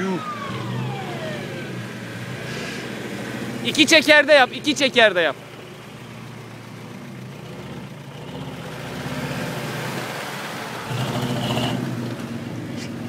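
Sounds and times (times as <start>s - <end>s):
suv engine revving: 0.0s - 13.0s.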